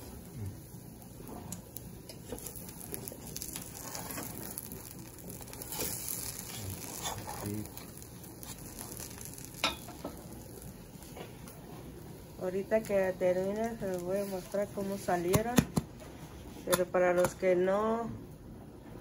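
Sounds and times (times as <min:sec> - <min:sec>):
batter sizzling in a skillet: 0:00.0 - 0:16.9.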